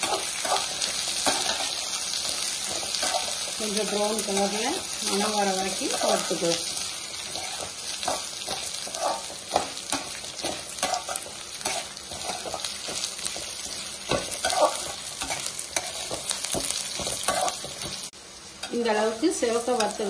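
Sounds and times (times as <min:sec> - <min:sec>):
lentils sizzling in oil: 0:00.0 - 0:20.0.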